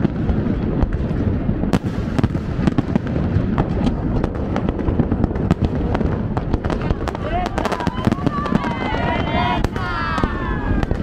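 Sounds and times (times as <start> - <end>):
fireworks cracking and popping: 0.0 - 11.0
low rumble of bursts: 0.0 - 11.0.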